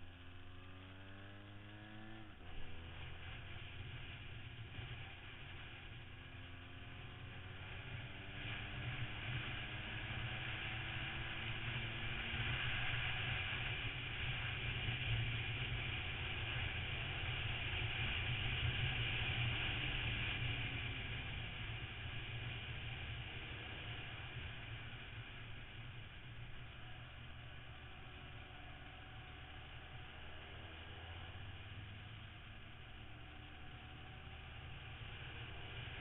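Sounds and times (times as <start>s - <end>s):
motorcycle engine: 0.0s - 36.0s
wind and road noise: 0.0s - 36.0s.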